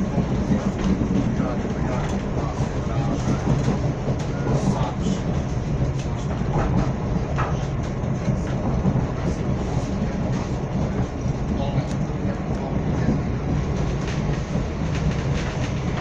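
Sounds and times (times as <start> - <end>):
train rumbling on track: 0.0 - 16.0
wheels clicking on rails: 0.0 - 16.0.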